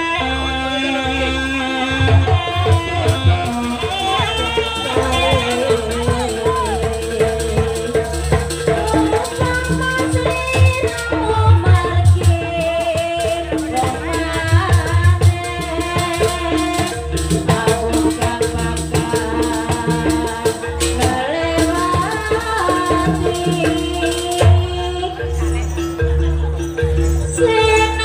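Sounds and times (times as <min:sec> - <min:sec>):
rattling percussion: 0:00.0 - 0:28.0
drum strokes: 0:01.8 - 0:28.0.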